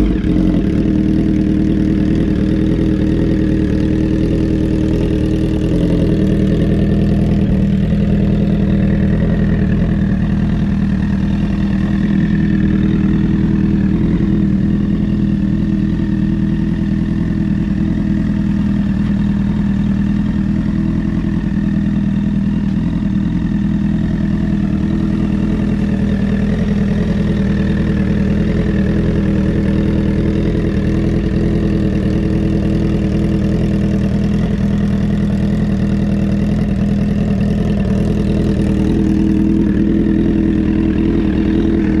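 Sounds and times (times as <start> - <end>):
motorcycle engine idling: 0.0 - 42.0.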